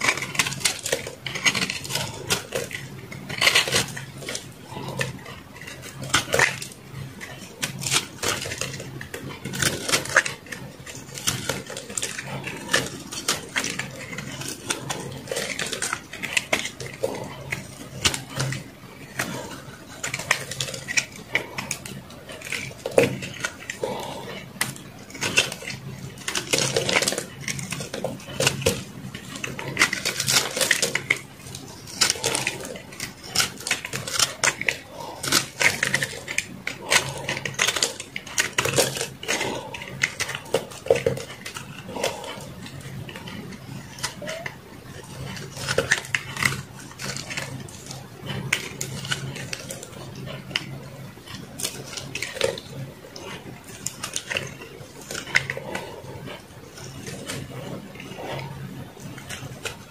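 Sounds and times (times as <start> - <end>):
knife scraping soap: 0.0 - 59.9.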